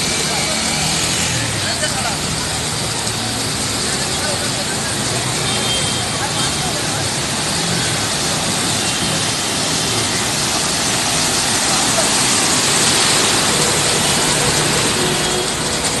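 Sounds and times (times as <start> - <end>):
truck wheels splashing through water: 0.0 - 16.0.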